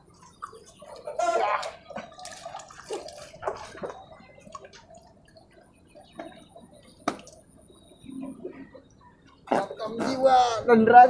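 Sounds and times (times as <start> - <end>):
water splashing and dripping: 0.0 - 9.6.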